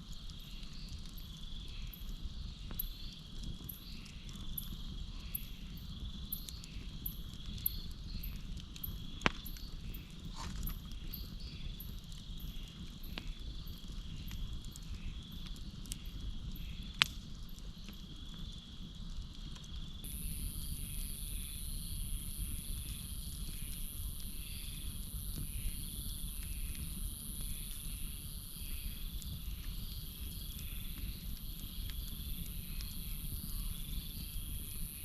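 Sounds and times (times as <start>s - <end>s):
campfire crackling and popping: 0.0s - 35.0s
crickets chirping: 0.0s - 35.0s.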